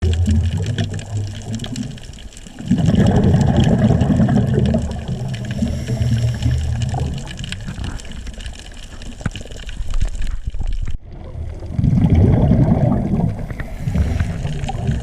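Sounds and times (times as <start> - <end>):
rush of bubbles: 0.0 - 15.0.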